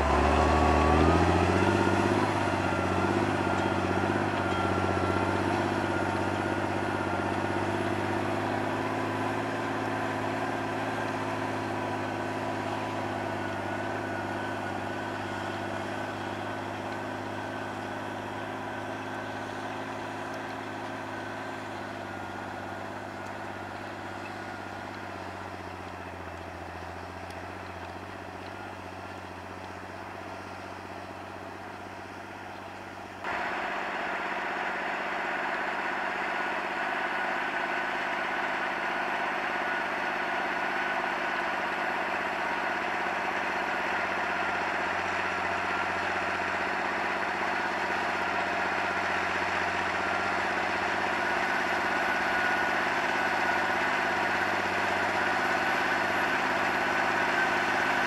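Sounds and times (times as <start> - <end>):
thin steady whine: 0.0 - 58.0
tractor diesel engine under load: 0.0 - 58.0.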